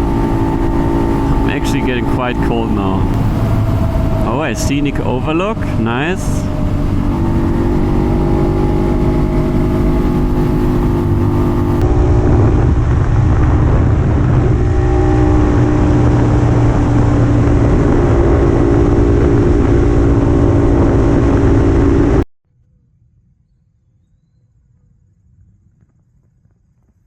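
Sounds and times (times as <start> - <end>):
two-stroke motorcycle engine running: 0.0 - 22.2.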